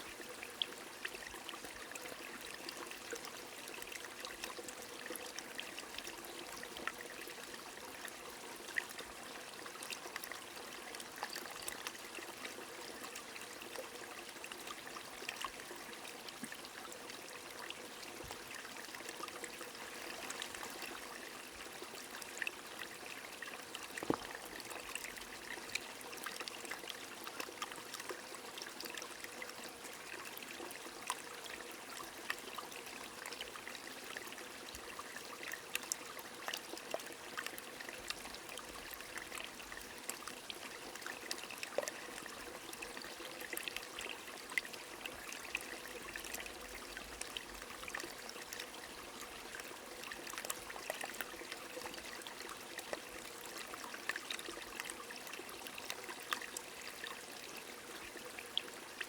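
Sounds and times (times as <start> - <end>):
flowing stream: 0.0 - 59.0.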